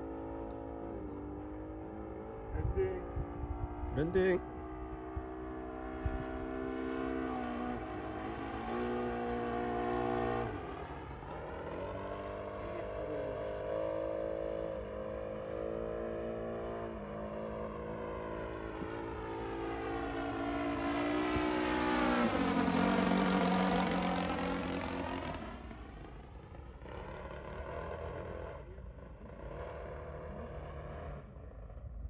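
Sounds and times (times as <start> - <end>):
model airplane engine and propeller: 0.0 - 32.0.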